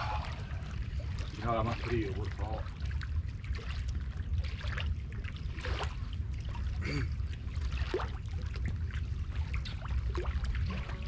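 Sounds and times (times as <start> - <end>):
river water lapping: 0.0 - 11.0
wind rumbling on microphone: 0.0 - 11.0.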